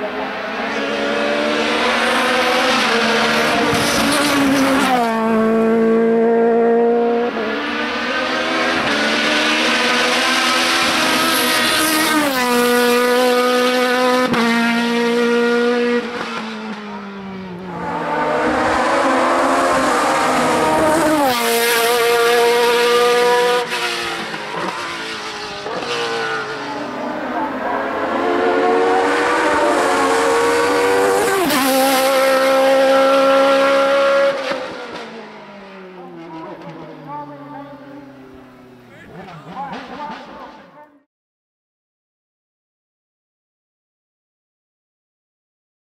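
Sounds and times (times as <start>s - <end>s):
race car engine: 0.0s - 41.1s.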